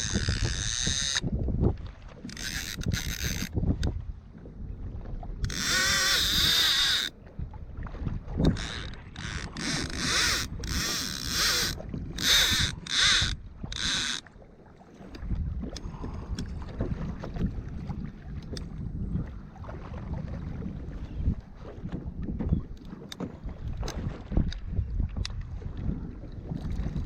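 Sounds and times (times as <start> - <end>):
water splashing around kayak: 0.0 - 27.0
wind rumbling on microphone: 0.0 - 27.0.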